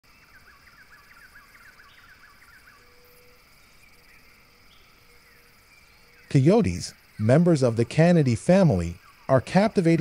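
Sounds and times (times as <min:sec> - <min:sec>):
bird chirping: 0:00.1 - 0:10.0
high insect drone: 0:00.1 - 0:10.0.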